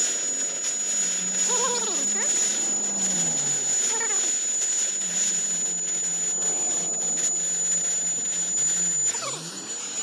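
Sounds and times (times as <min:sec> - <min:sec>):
high-pitched whine: 0:00.0 - 0:10.0.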